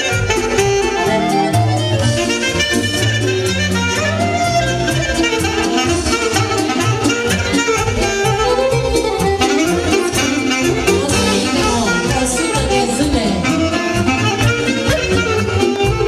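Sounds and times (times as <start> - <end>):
folk band playing dance music: 0.0 - 16.0.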